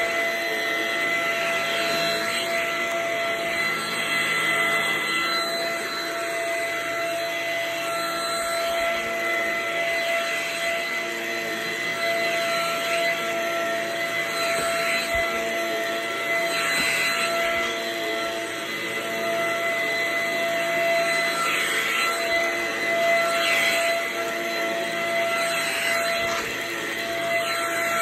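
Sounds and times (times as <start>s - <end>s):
vacuum cleaner running on carpet: 0.0s - 28.0s.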